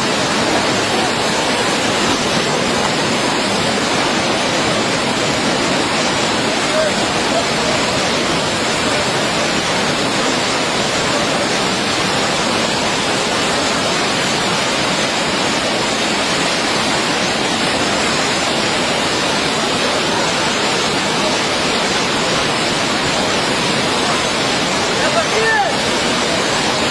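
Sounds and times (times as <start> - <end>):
loud rush of falling water: 0.0 - 26.9.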